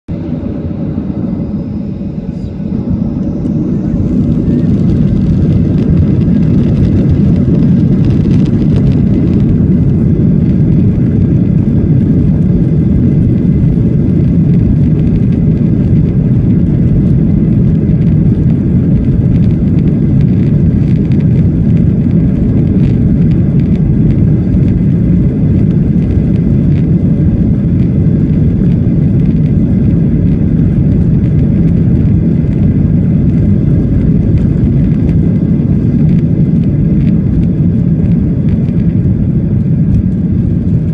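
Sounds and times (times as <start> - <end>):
jet engines at high thrust: 0.1 - 40.9
wheels rumbling on runway: 0.1 - 40.9.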